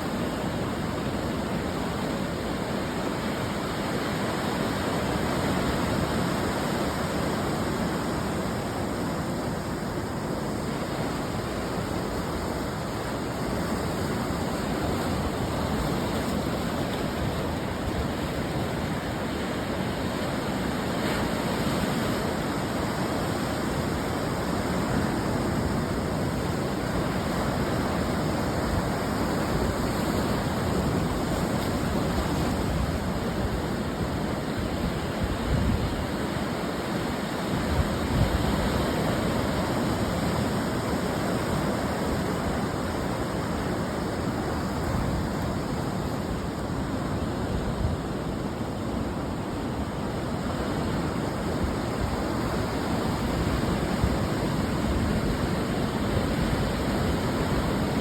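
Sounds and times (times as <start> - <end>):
ocean surf breaking on shore: 0.0 - 58.0.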